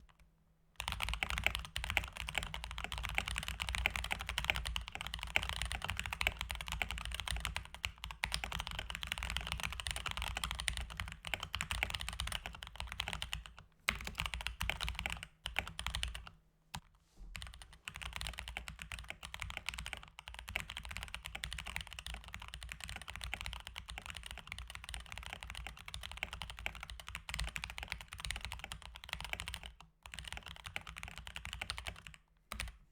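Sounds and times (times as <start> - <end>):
mechanical keyboard fast typing: 0.8 - 16.3, 17.4 - 32.8.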